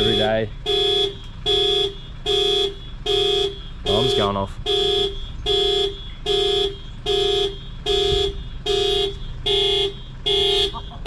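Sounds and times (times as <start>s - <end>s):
electronic alarm beeping: 0.0s - 11.0s.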